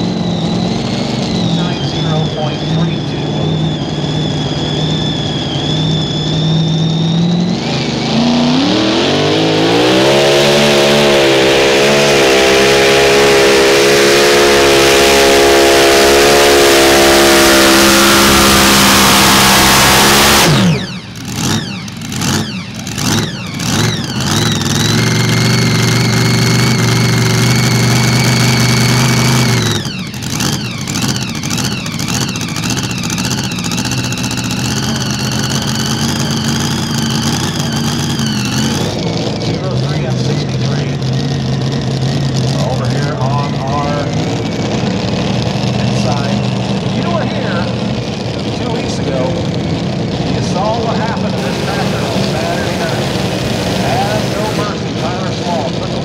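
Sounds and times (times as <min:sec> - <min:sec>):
tractor engine revving: 0:00.0 - 0:56.0.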